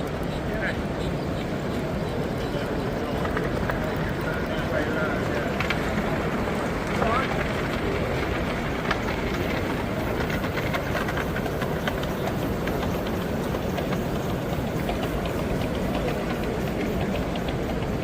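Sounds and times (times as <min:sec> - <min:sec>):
busy hall noise: 0:00.0 - 0:18.0
model train running: 0:00.0 - 0:18.0
small irregular clicks: 0:00.0 - 0:18.0.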